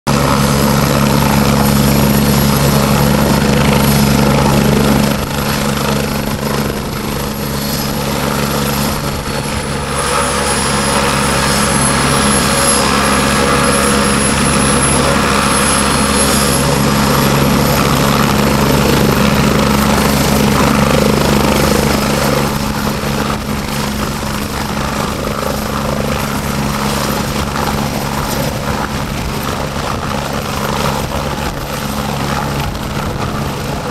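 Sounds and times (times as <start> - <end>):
helicopter rotor beat: 0.1 - 33.9
high turbine whine: 0.1 - 33.9.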